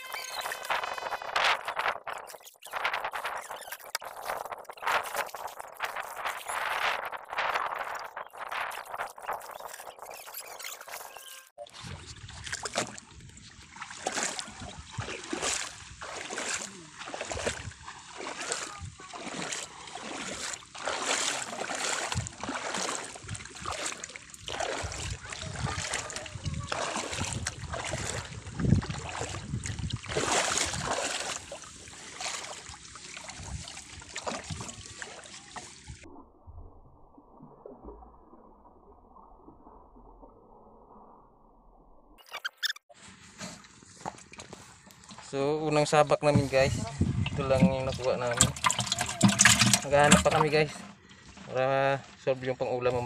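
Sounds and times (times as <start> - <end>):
water sloshing and splashing: 0.0 - 39.1, 42.4 - 53.0.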